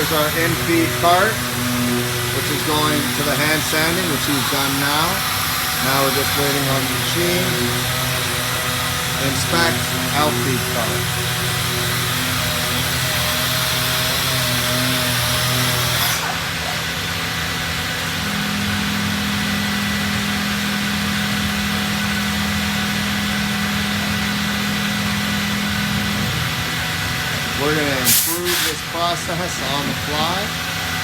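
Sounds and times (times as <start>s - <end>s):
machinery drone: 0.0s - 31.0s
power sander whirring: 0.0s - 31.0s.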